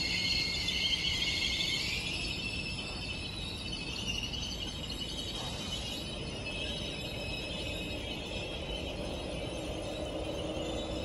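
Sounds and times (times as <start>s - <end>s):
high-pitched metallic train whine: 0.0s - 11.0s.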